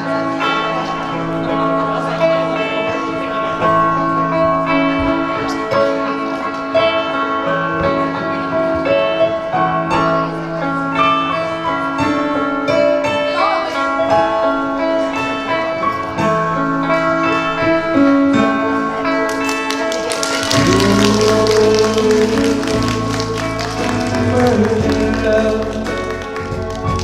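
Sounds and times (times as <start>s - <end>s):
live band playing guitar-led music: 0.0s - 27.0s.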